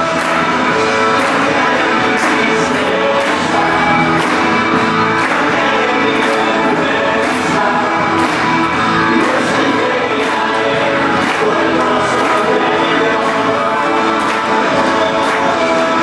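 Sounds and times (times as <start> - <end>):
music with steady beat: 0.0 - 16.0
voices singing together: 0.0 - 16.0.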